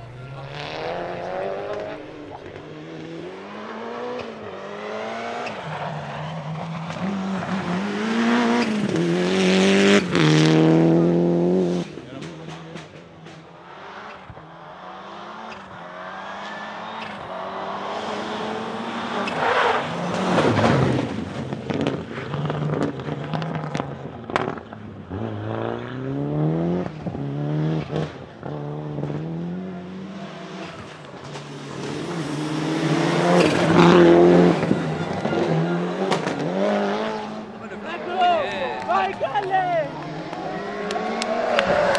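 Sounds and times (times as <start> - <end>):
rally car engine at full throttle: 0.0 - 41.9.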